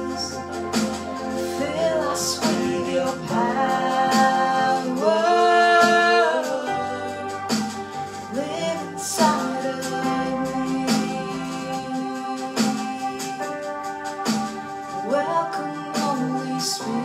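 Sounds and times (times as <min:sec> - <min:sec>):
devotional hymn singing: 0:00.0 - 0:17.0
instrumental accompaniment: 0:00.0 - 0:17.0.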